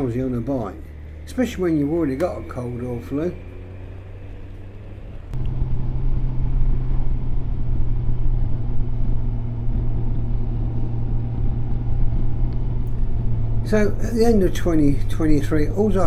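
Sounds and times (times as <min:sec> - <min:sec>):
wind and road rumble: 0:00.0 - 0:16.0
motorcycle engine running: 0:00.8 - 0:16.0.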